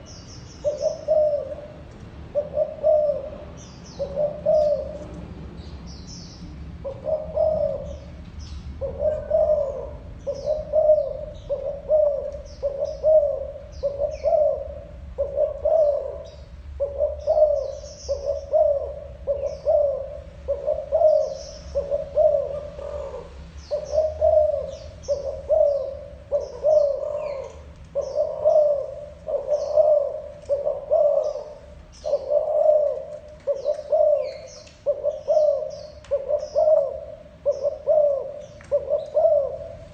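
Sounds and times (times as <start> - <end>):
dove cooing: 0.0 - 5.2, 6.8 - 8.2, 8.8 - 39.9
small birds chirping: 0.0 - 39.9.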